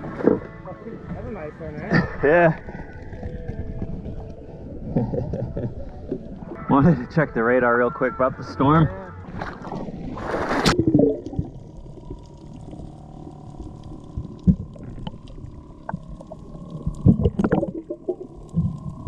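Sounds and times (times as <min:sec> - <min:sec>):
dull gurgling thumps: 0:00.0 - 0:06.6, 0:09.2 - 0:19.0
faint steady hum: 0:00.0 - 0:19.0
muffled underwater rumble: 0:00.0 - 0:19.0.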